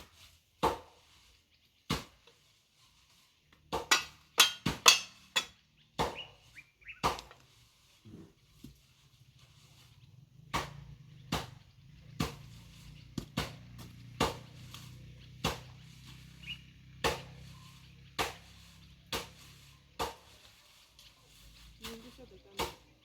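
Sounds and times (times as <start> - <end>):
hoe striking soil: 0.0 - 2.5, 3.5 - 9.0, 10.4 - 23.0.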